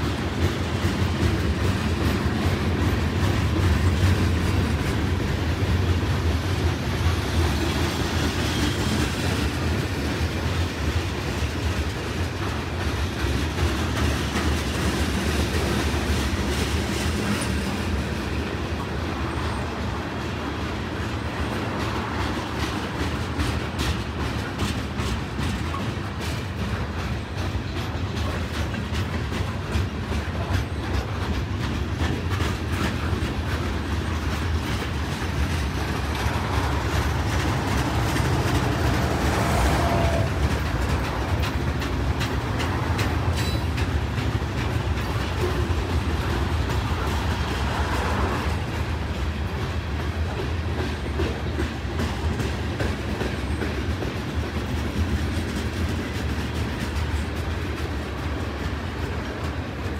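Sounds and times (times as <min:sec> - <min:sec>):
clickety-clack over rail joints: 0:00.0 - 0:59.9
freight train wheels rumbling on rail: 0:00.0 - 0:59.9.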